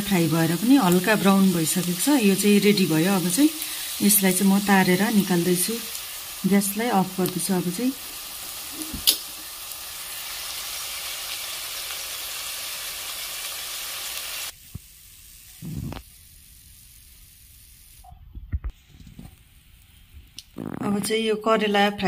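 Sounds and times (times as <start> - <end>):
food deep-frying in hot oil: 0.0 - 18.1.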